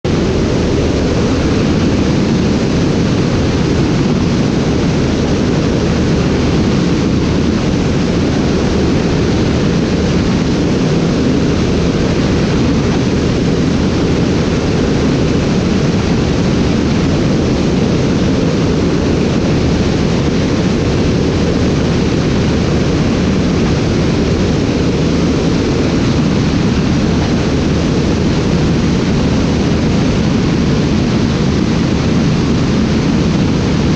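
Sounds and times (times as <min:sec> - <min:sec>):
aircraft cabin noise: 0:00.0 - 0:33.9.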